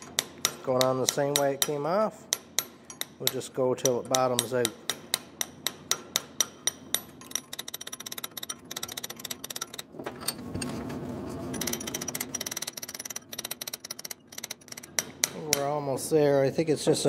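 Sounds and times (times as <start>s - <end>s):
hammer tapping metal: 0.0s - 9.8s, 11.6s - 15.9s.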